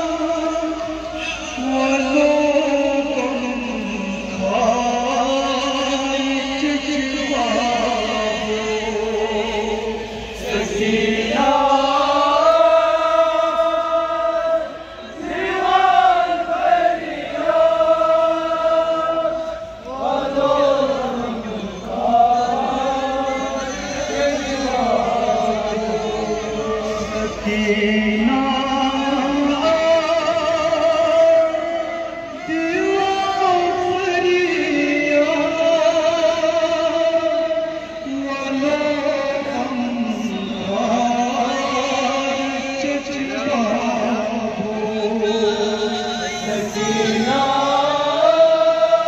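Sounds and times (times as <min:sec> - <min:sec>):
man chanting a lament: 0:00.0 - 0:16.8, 0:17.5 - 0:49.0.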